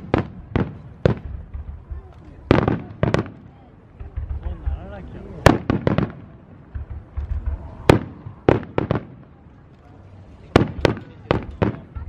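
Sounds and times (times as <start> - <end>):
fireworks bursting with bangs: 0.0 - 12.0
low rumbling: 0.0 - 12.0.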